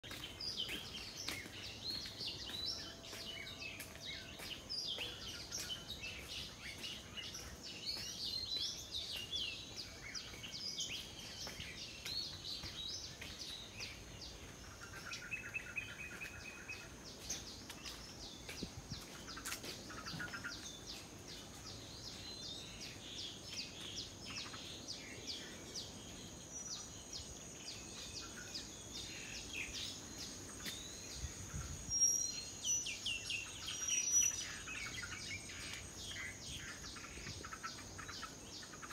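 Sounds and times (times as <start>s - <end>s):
birds chirping and calling: 0.1s - 38.9s.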